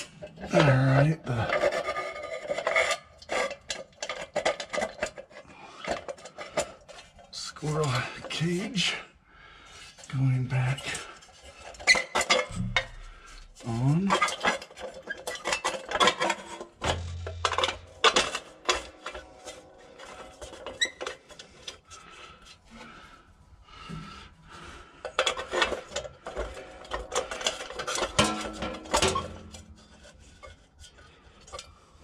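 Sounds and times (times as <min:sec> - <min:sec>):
metal clicks knocks and scraping: 0:00.0 - 0:08.6, 0:11.1 - 0:22.9, 0:25.0 - 0:31.7.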